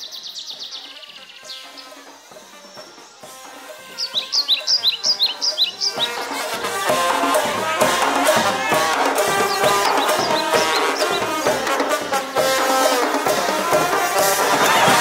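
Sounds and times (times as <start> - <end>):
band with drums and brass: 0.0 - 15.0.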